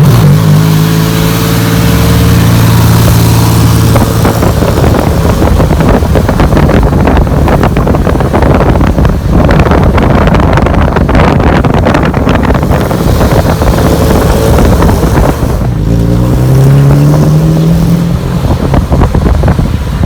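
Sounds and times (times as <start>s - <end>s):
car engine exhaust roaring: 0.0s - 20.0s.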